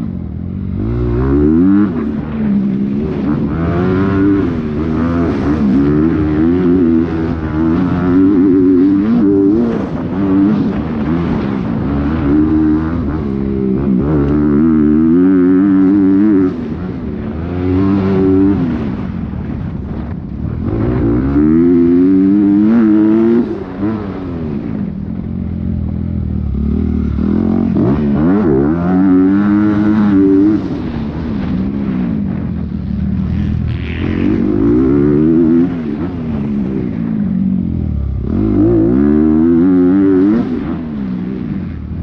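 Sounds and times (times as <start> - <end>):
dirt bike engine revving: 0.6 - 24.8, 26.1 - 41.5.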